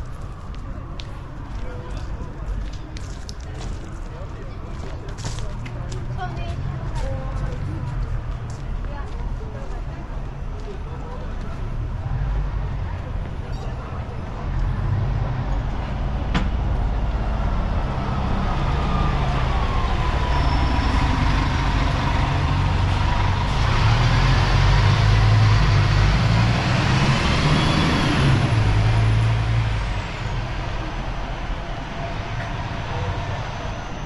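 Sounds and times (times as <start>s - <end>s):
bus engine rumbling: 0.0s - 34.0s.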